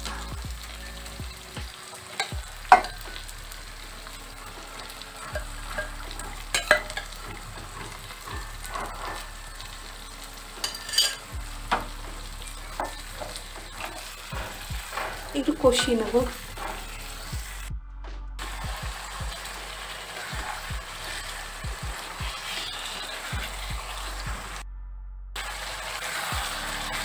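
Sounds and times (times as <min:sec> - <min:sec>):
chicken sizzling in hot oil: 0:00.0 - 0:17.7, 0:18.4 - 0:24.6, 0:25.4 - 0:27.0.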